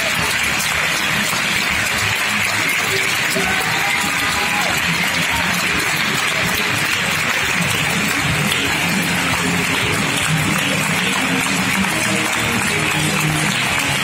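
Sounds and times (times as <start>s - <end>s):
crowd clapping: 0.0s - 14.0s.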